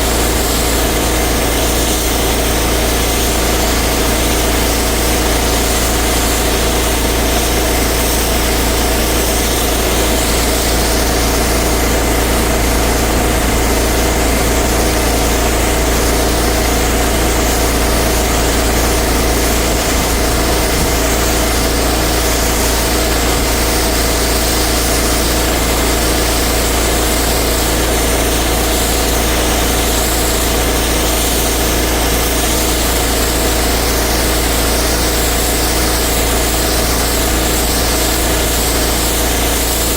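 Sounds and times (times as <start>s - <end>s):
pressure washer engine running: 0.0s - 39.9s
spray hissing: 0.0s - 39.9s.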